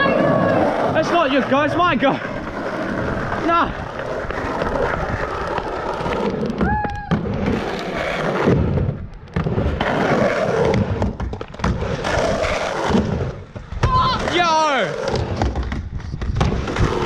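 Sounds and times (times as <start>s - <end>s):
skateboard wheels rolling on ramp: 0.0s - 17.0s
skateboard clacks and thuds: 2.3s - 17.0s.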